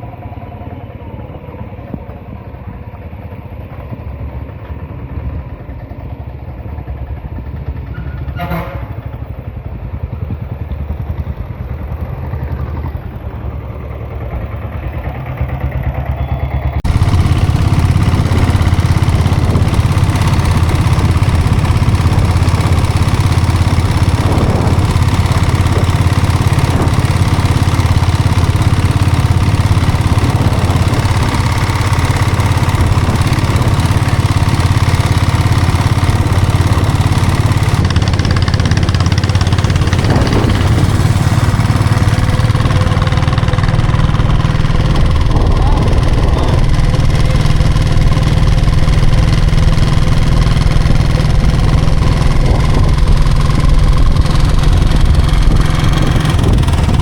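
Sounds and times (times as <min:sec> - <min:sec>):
diesel motorcycle engine running: 0:00.0 - 0:57.0.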